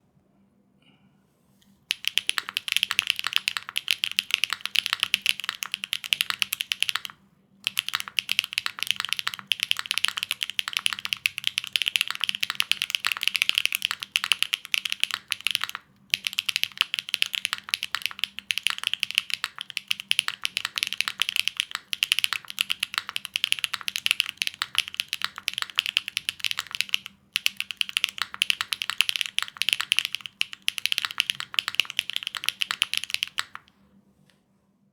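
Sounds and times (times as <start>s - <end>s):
mechanical keyboard typing: 1.9s - 33.7s.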